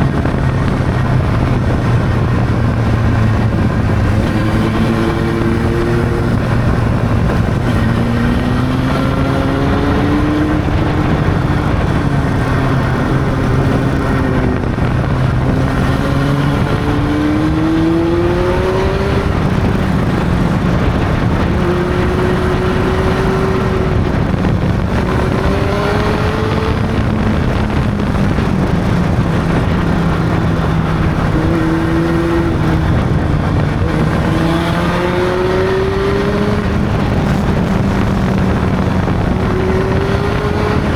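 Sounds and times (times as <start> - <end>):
motorcycle engine revving: 0.0 - 40.9
road and wind noise: 0.0 - 40.9.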